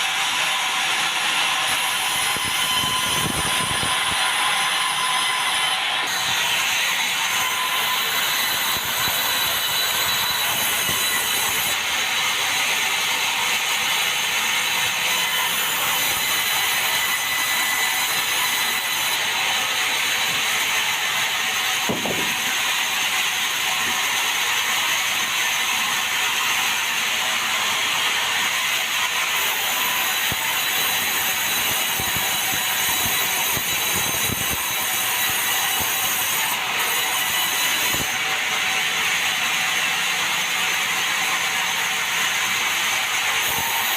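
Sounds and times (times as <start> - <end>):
saw cutting timber: 0.0 - 43.9.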